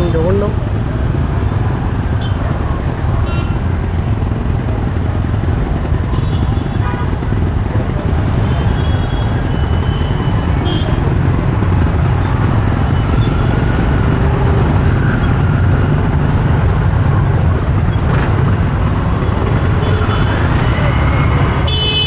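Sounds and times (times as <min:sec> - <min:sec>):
motorbike riding in traffic: 0:00.0 - 0:22.0.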